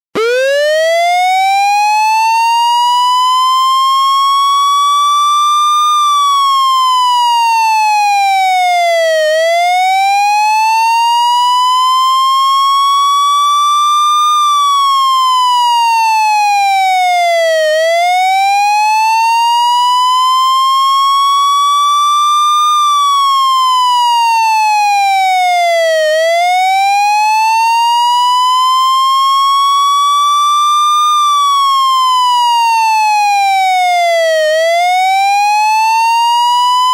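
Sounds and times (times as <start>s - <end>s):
fire engine siren wailing: 0.2s - 36.9s.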